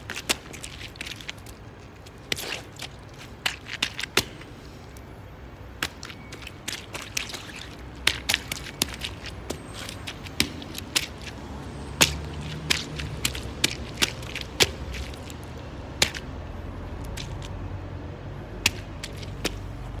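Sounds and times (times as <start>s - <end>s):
sneaker grinding wet pulp: 0.0s - 4.8s, 5.8s - 20.0s.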